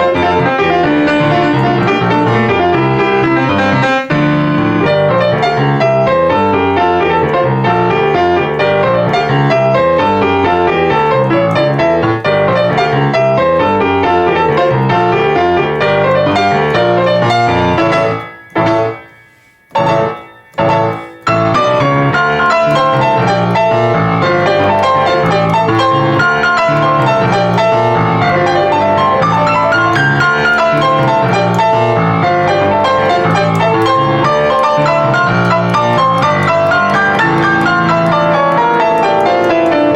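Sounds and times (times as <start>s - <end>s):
fast piano passage: 0.0s - 39.9s
short stabbed piano chords: 0.0s - 39.9s.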